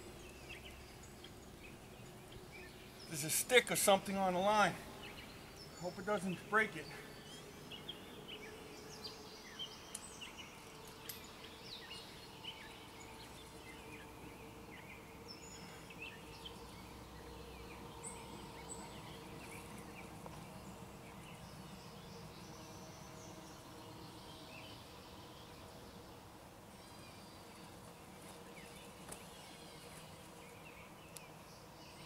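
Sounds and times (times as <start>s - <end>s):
birds chirping: 0.0s - 32.0s
faint steady hum: 0.0s - 32.0s.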